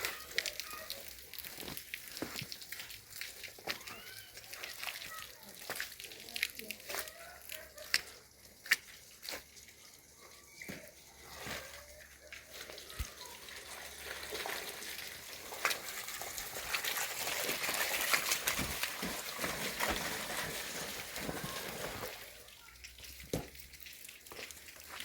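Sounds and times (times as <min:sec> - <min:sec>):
water running with a hiss: 0:00.0 - 0:25.0.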